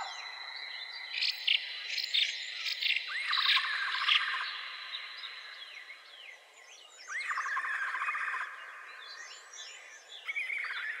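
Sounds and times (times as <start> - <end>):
wild birds singing: 0.0 - 11.0.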